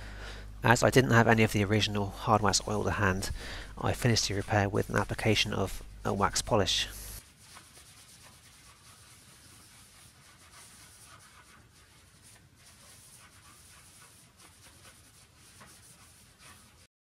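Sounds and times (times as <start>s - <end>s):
cloth rubbing on wood: 1.2s - 16.9s.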